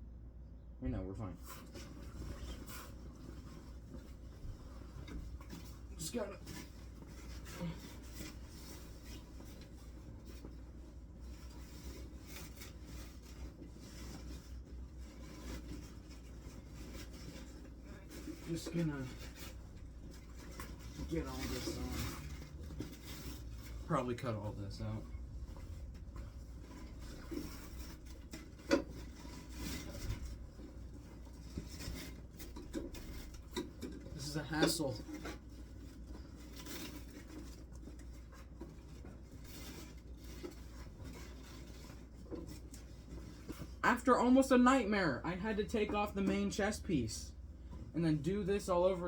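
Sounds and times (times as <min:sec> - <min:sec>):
fabric rustling and rubbing: 0:01.4 - 0:49.0.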